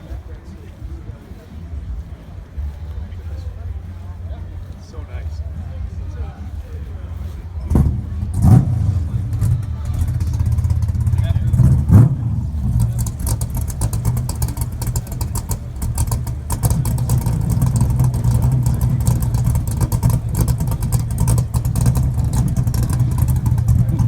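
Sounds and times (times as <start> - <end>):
car engine exhaust rumble: 0.0 - 24.0.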